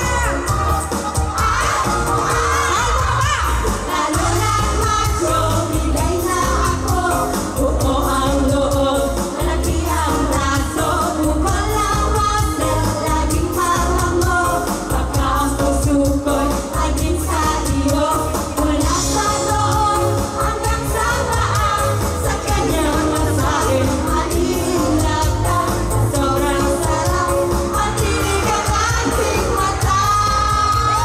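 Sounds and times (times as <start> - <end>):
women singing pop music: 0.0 - 31.0.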